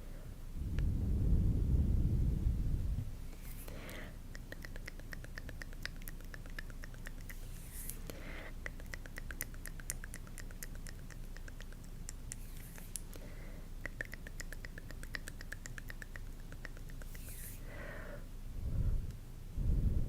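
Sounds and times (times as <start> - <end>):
low background hiss: 0.0 - 20.0.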